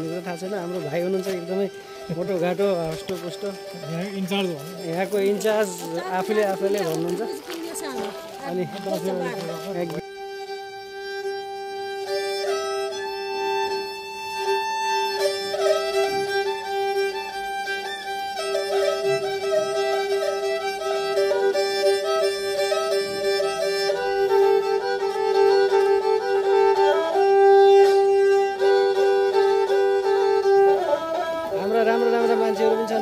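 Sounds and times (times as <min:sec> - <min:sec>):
bowed string melody: 0:00.0 - 0:33.0.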